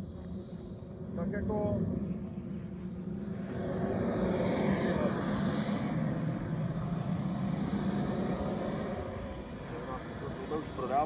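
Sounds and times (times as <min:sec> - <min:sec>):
model jet turbine running: 0:00.0 - 0:11.0.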